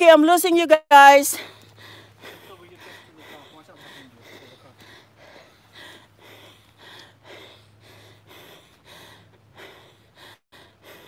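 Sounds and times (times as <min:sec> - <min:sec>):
person panting hard: 0:01.4 - 0:11.0.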